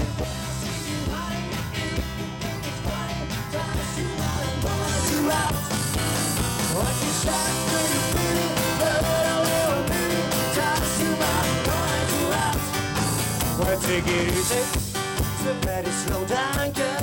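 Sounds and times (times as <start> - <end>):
acoustic guitar: 0.0 - 17.0
electric bass: 0.0 - 17.0
person singing: 0.0 - 17.0
steady drum beat: 0.0 - 17.0.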